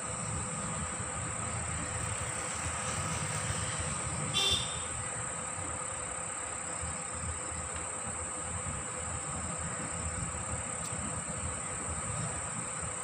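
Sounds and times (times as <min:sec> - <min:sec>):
insects chirring: 0:00.0 - 0:12.9.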